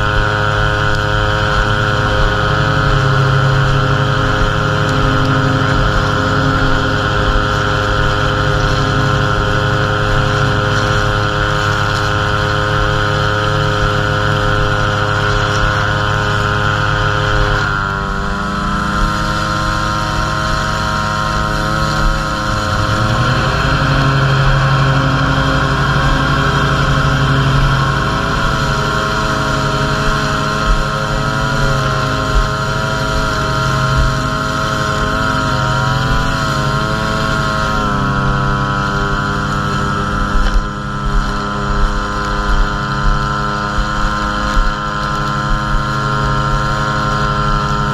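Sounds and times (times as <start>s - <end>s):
string trimmer engine: 0.0s - 47.9s.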